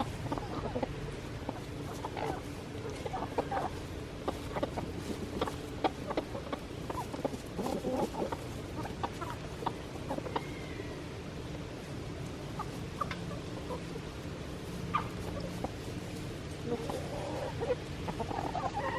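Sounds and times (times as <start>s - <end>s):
chickens clucking: 0.0s - 18.9s
faint steady hum: 0.0s - 18.9s.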